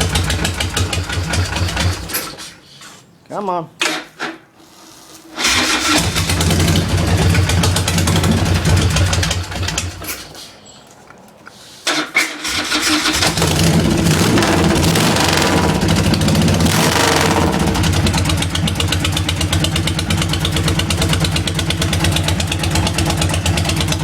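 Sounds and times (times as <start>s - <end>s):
motorcycle engine starting and running: 0.0s - 2.4s, 5.3s - 10.4s, 11.8s - 24.0s.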